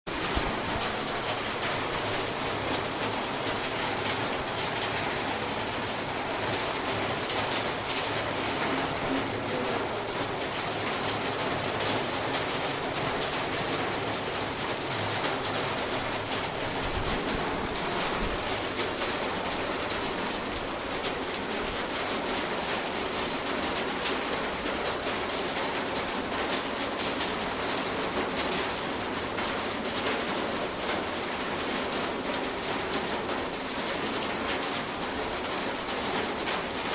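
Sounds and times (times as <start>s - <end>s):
rain on a roof: 0.0s - 36.9s.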